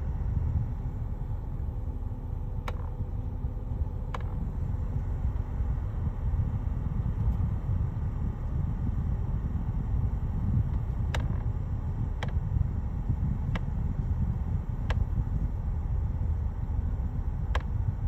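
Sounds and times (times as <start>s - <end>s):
car low rumble: 0.0s - 18.0s
air-conditioning clicks: 1.2s - 18.0s.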